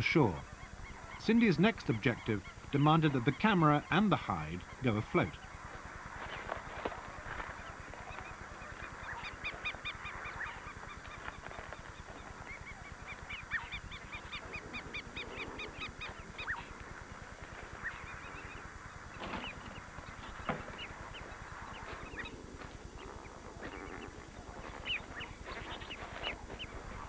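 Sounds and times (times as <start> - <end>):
flamingos honking: 0.0 - 27.0.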